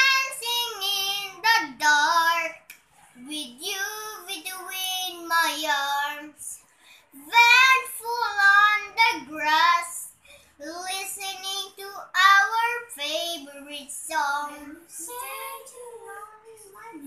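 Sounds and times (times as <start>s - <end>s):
boy singing unaccompanied: 0.0s - 6.6s, 7.2s - 17.0s.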